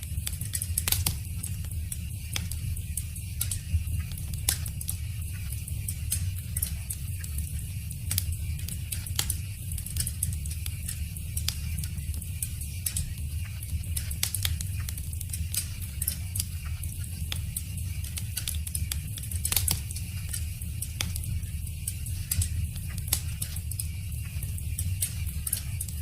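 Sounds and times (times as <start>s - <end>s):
low rumble of burning: 0.0s - 26.0s
wood fire crackling and popping: 0.0s - 26.0s.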